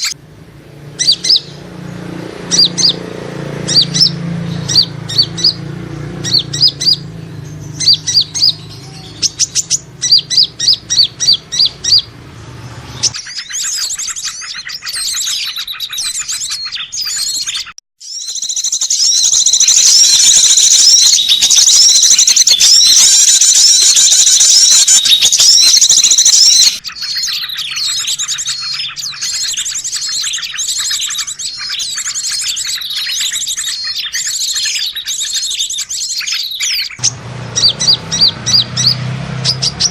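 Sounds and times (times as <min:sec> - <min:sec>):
rapid high bird twittering: 0:00.0 - 0:39.9
repeated high bird chirps: 0:01.0 - 0:01.6, 0:02.4 - 0:03.0, 0:03.6 - 0:39.9.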